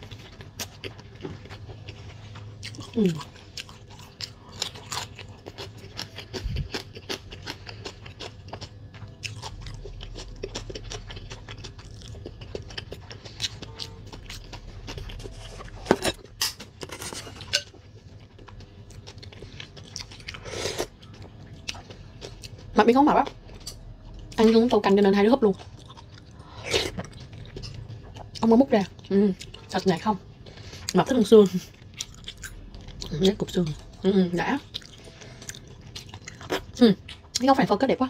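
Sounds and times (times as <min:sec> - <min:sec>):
wet chewing with crunches: 0:00.0 - 0:37.6.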